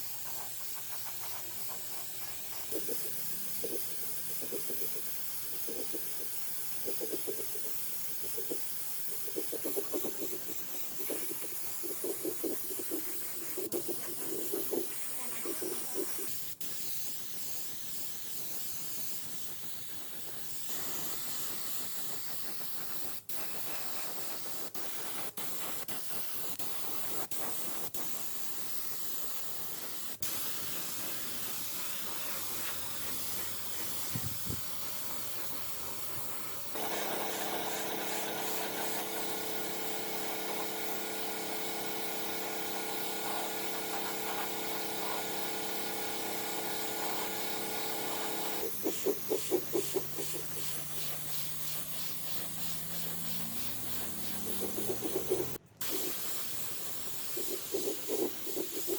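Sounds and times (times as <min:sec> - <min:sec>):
spraying hiss: 0:00.0 - 0:58.9.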